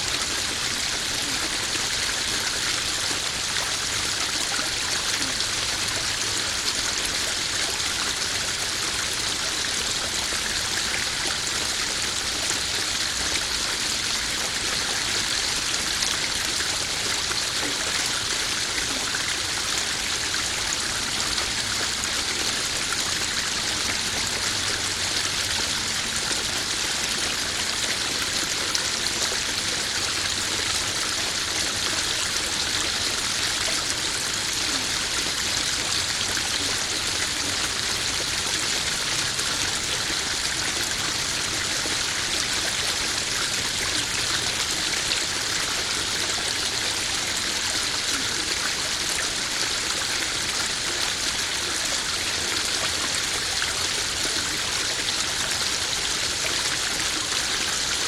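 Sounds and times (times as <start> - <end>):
waterfall splashing into pond: 0.0 - 58.0.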